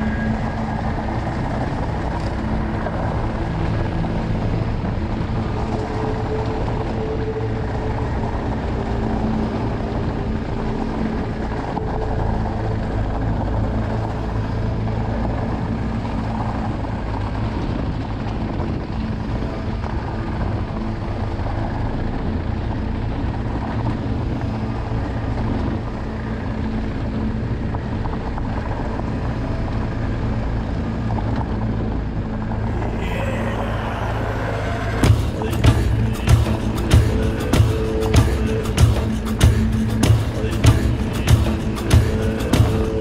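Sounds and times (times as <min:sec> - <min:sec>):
motorcycle engine running: 0:00.0 - 0:43.0
wind noise on microphone: 0:00.0 - 0:43.0.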